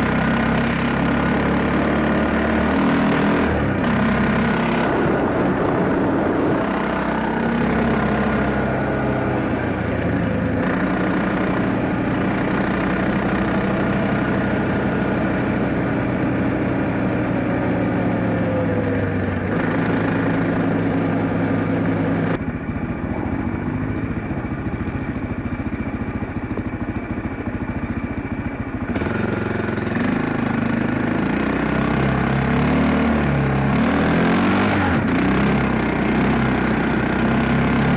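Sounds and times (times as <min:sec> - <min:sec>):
dirt bike engine running: 0:00.0 - 0:37.9.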